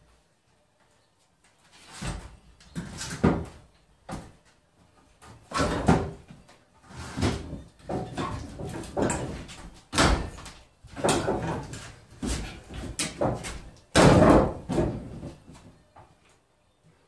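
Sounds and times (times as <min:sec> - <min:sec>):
wooden knocks and thumps: 0:02.0 - 0:16.1.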